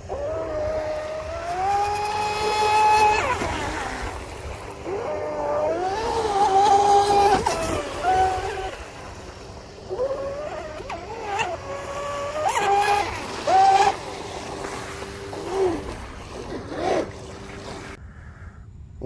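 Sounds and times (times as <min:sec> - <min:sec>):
electric boat motor whining: 0:00.0 - 0:18.0
water hissing: 0:00.0 - 0:18.0.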